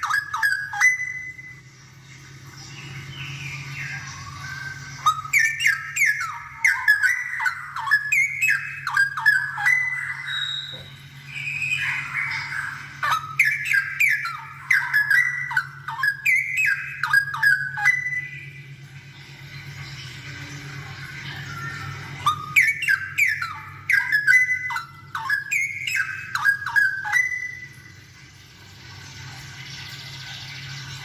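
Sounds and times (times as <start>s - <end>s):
bird whistling song: 0.0s - 1.8s, 2.5s - 19.7s, 20.8s - 28.1s.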